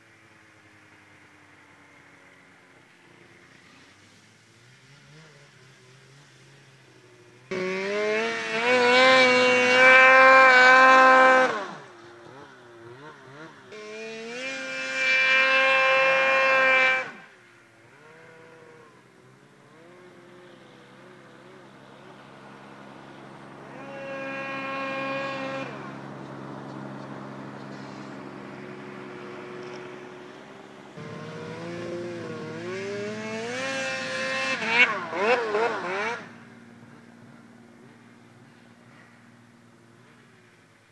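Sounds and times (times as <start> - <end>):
snowmobile engine idling and revving: 0.0 - 40.9.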